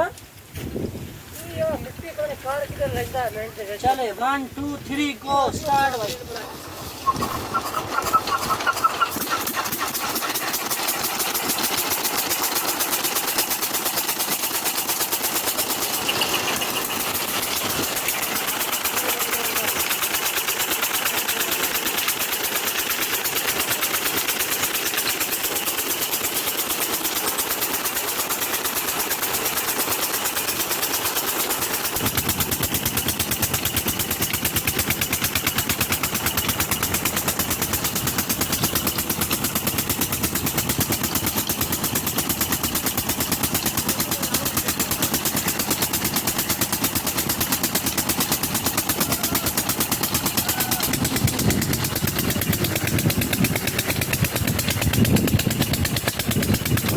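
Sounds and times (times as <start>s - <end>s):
diesel pump engine running: 0.5s - 56.9s.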